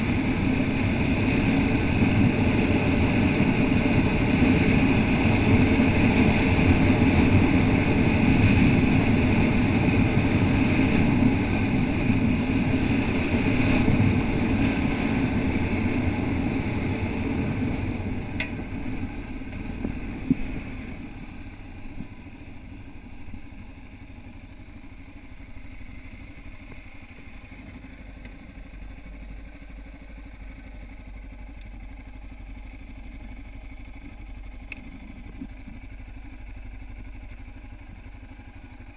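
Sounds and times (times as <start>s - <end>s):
motorcycle engine at speed: 0.0s - 38.9s
road and wind noise: 0.0s - 38.9s.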